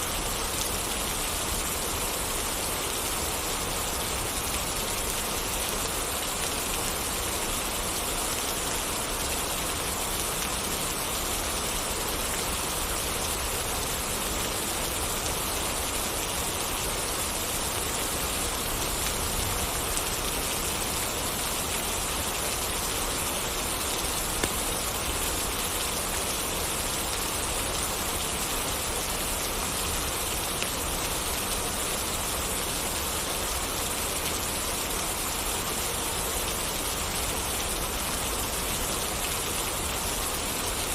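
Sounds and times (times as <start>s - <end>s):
rain pattering: 0.1s - 40.9s.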